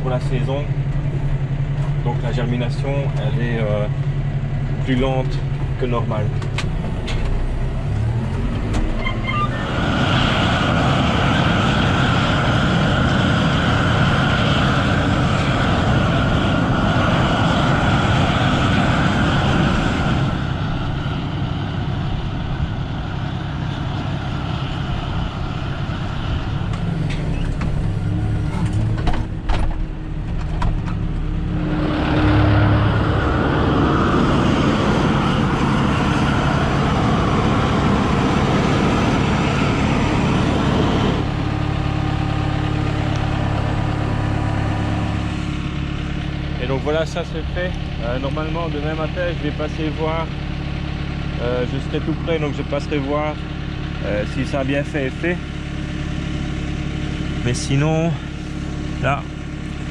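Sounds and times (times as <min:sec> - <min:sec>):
flame weeder burners hissing roar: 0:00.0 - 0:28.9, 0:30.0 - 0:55.5
tractor engine running: 0:00.0 - 0:59.9.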